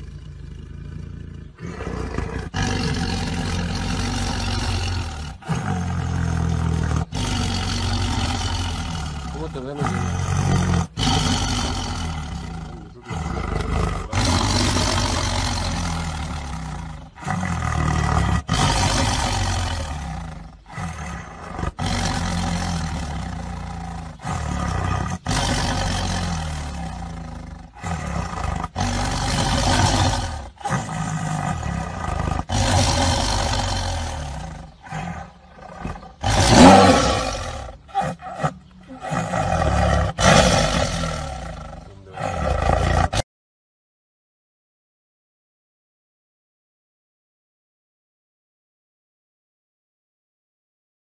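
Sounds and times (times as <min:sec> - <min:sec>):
tiger growling: 0:00.0 - 0:43.2
tiger snarling: 0:00.0 - 0:43.2.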